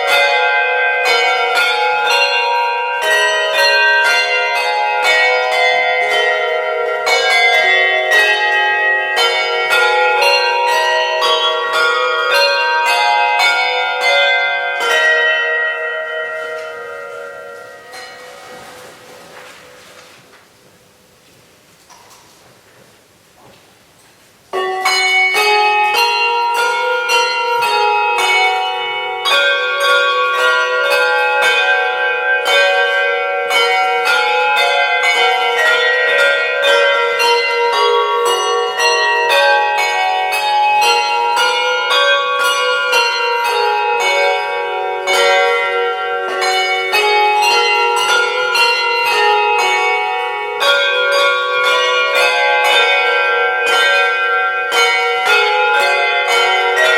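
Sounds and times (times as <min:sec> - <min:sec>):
handbells playing a tune: 0:00.0 - 0:19.7, 0:24.5 - 0:56.9.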